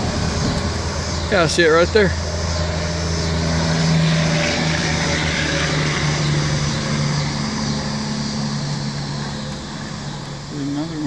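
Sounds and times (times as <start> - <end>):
distant engine droning: 0.0 - 11.0.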